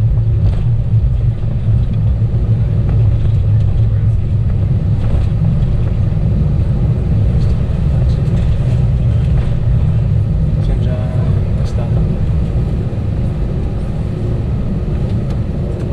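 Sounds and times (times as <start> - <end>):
jet engines and airflow in cabin: 0.0 - 15.9.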